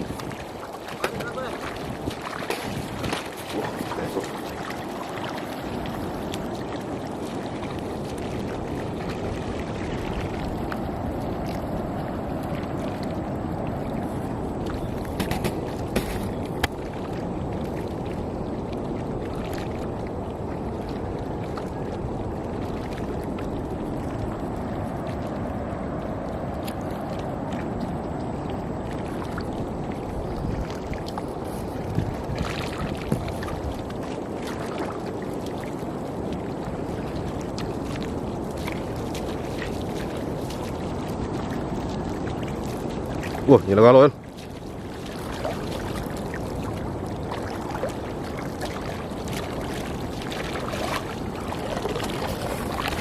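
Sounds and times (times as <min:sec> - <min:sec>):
water sloshing and splashing: 0:00.0 - 0:53.0.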